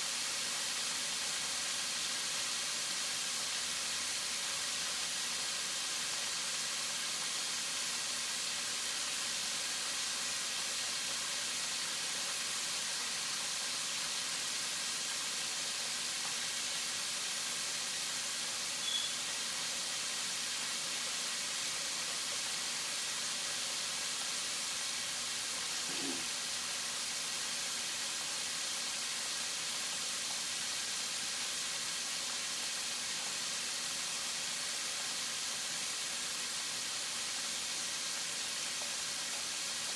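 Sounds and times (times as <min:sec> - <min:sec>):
chicken frying in oil sizzling: 0:00.0 - 0:39.9.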